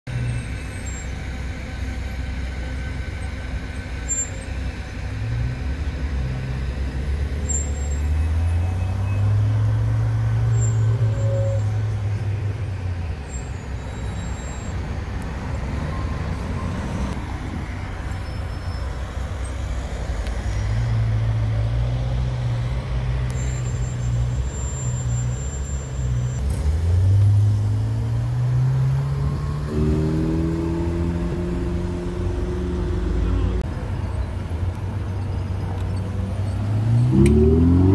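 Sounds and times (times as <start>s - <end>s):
sports car engine: 0.2s - 37.9s.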